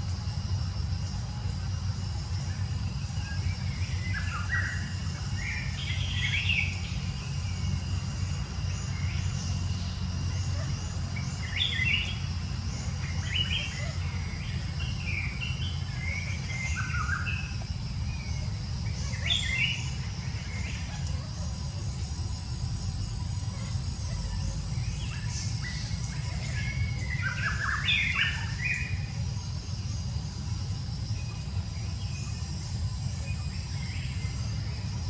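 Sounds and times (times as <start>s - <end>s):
steady high hum: 0.0s - 35.0s.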